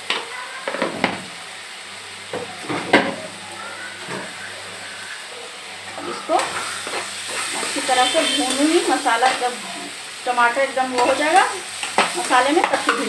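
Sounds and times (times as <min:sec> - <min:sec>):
masala frying in oil: 0:00.0 - 0:13.0
oil crackling: 0:02.3 - 0:13.0.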